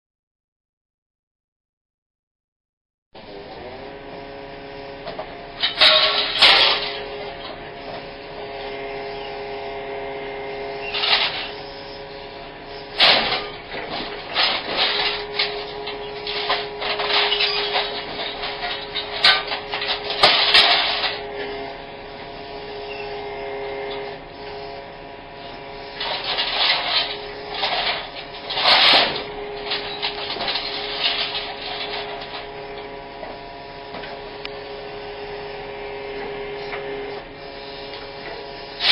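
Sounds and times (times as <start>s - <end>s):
excavator engine humming: 3.2s - 38.9s
scrap metal scraping and clanking: 5.0s - 9.4s, 10.6s - 38.9s.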